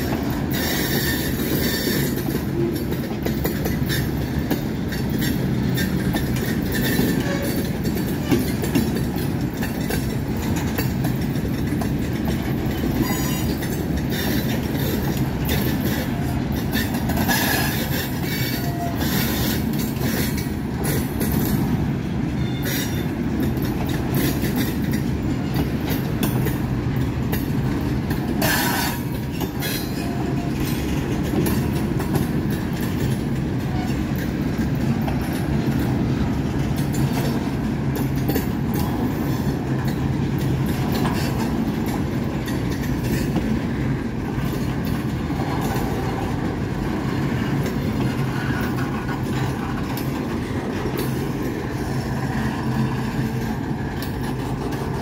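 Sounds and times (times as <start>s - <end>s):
steel wheels rumbling on rail: 0.0s - 55.0s
wheels clicking over rail joints: 0.0s - 55.0s.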